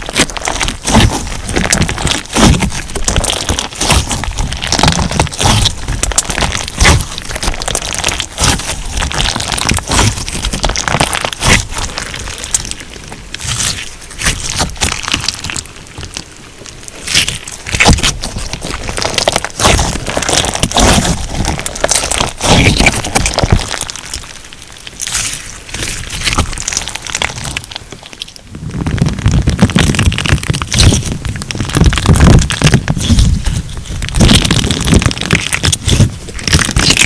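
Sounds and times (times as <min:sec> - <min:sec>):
slime crackling and popping: 0:00.0 - 0:37.0.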